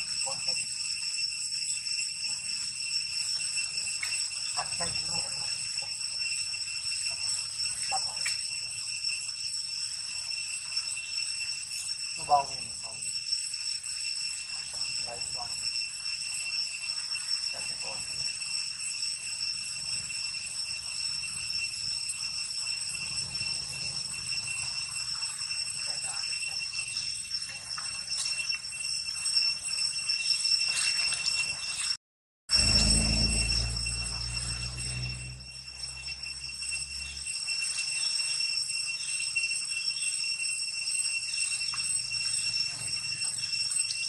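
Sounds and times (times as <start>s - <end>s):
high-pitched insect drone: 0.0s - 44.0s.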